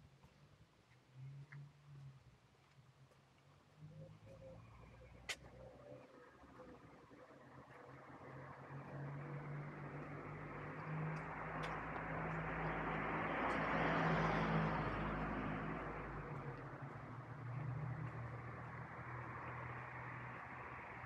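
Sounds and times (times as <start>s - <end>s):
passing vehicle engine hum: 3.8s - 21.0s.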